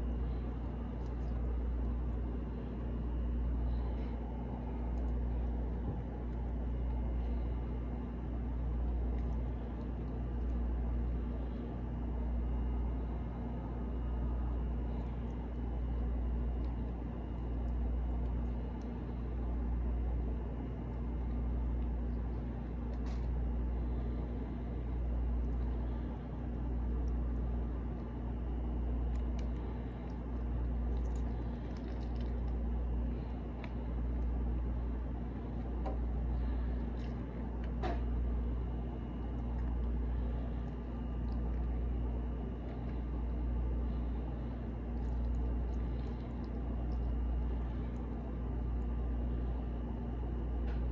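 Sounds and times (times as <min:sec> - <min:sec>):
low mechanical hum and rumble: 0:00.0 - 0:50.9.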